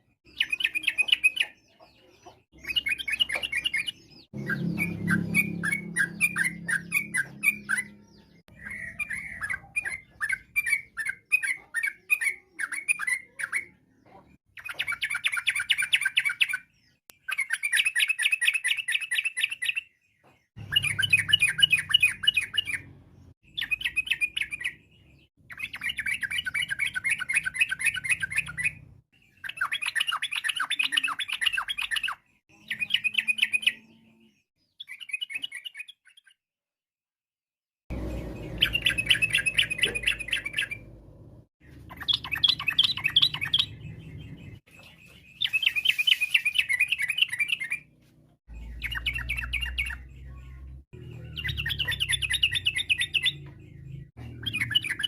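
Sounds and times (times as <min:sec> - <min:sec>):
bird singing chattering song: 0:00.0 - 0:36.4, 0:37.9 - 0:55.0.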